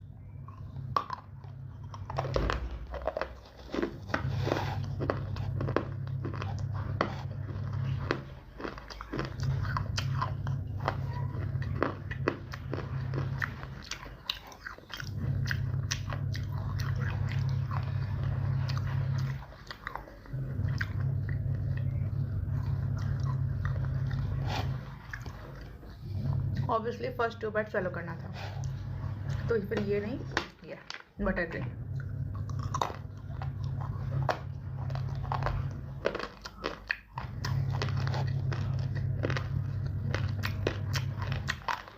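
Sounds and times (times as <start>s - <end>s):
steady low hum: 0.0s - 41.9s
crunchy chewing: 0.1s - 26.7s, 31.9s - 41.9s.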